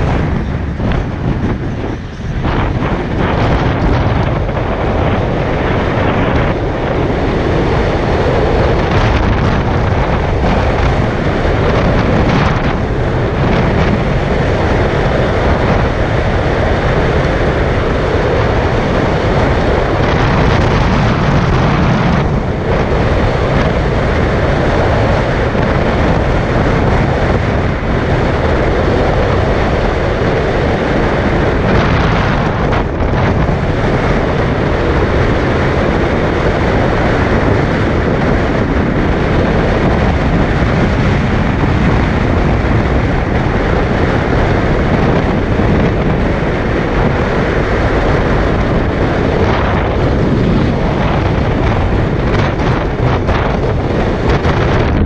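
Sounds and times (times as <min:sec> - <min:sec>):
car tyre and road noise: 0:00.0 - 0:55.0
wind rushing over microphone: 0:00.0 - 0:55.0.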